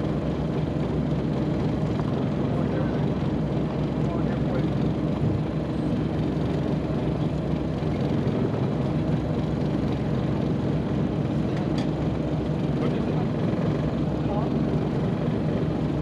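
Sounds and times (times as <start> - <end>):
boat motor droning: 0.0 - 16.0.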